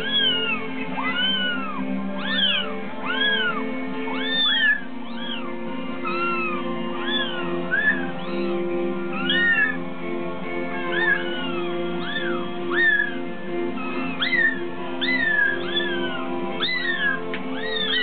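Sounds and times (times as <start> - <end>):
kittens mewing: 0.0 - 9.8, 10.6 - 18.0
background music with low notes: 0.0 - 18.0.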